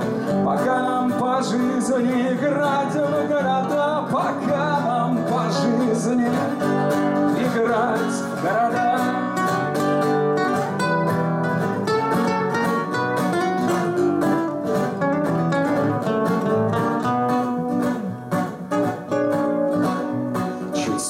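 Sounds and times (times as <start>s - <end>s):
acoustic guitars strumming: 0.0s - 21.0s
picked guitar melody: 0.0s - 21.0s.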